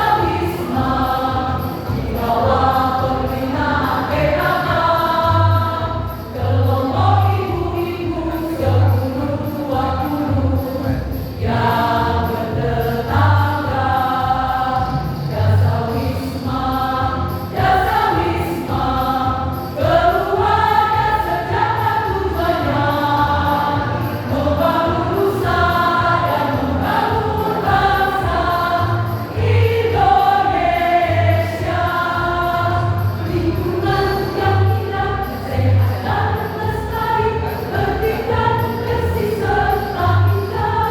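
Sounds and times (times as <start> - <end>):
choir singing in parts: 0.0 - 40.9.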